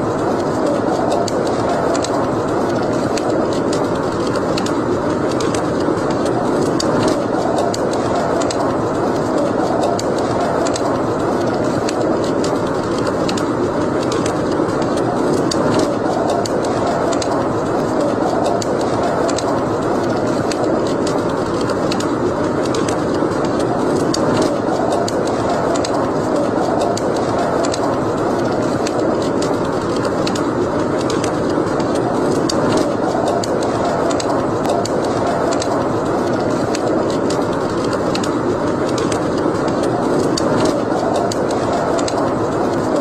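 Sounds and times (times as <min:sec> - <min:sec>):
fire crackling and popping: 0:00.0 - 0:43.0
wood fire roaring: 0:00.0 - 0:43.0.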